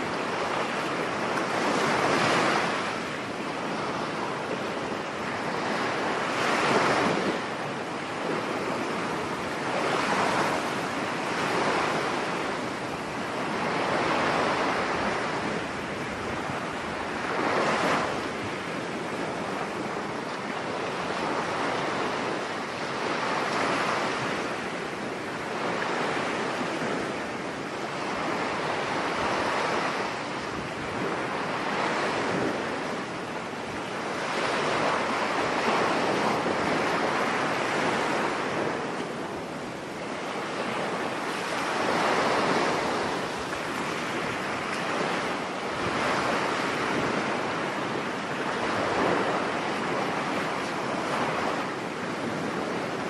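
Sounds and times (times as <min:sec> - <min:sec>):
stormy surf breaking on beach: 0:00.0 - 0:53.0
wind blowing over microphone: 0:00.0 - 0:53.0.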